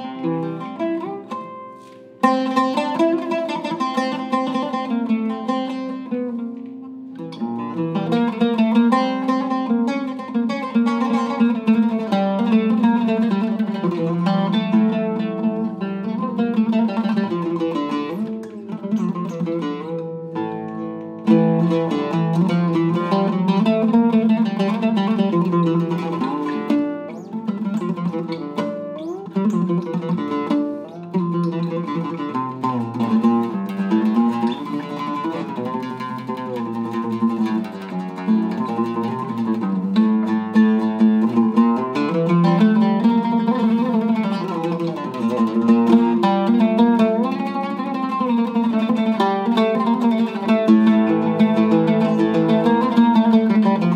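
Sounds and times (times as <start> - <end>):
oud plucked notes: 0.0 - 53.9.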